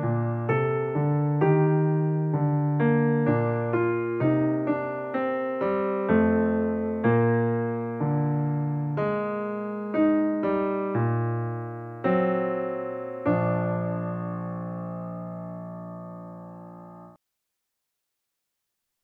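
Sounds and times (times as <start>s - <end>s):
slow electric piano melody: 0.0s - 17.2s.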